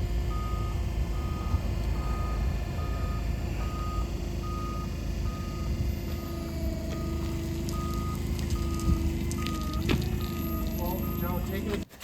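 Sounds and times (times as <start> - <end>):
engine rumbling: 0.0 - 12.0
reversing alarm beeping: 0.2 - 11.8.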